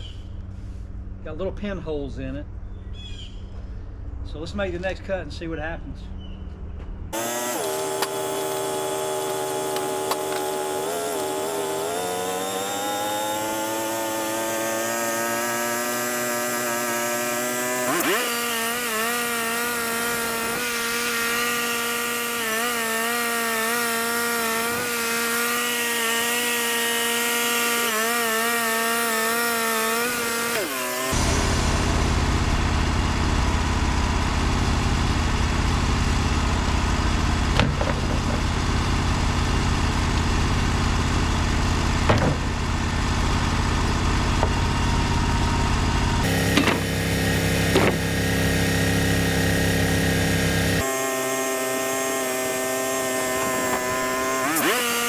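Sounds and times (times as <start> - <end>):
rough deep engine noise: 6.7 - 50.9
band sawmill sawing log: 7.2 - 55.0.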